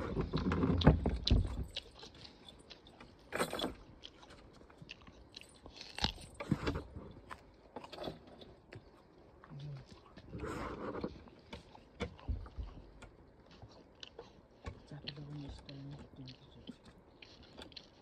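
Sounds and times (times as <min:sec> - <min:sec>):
apple being bitten and chewed: 0:00.0 - 0:18.0.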